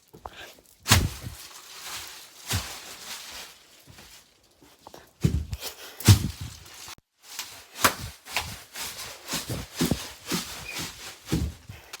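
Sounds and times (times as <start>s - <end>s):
bubble wrap being crushed: 0.0s - 12.0s.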